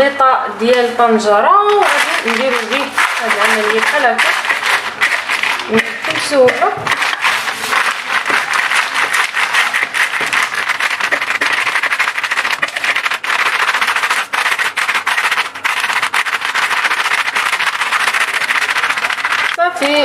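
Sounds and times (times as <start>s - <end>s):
plastic bag crinkling: 1.6s - 19.7s
glass lid scratching frozen herbs: 1.6s - 20.0s.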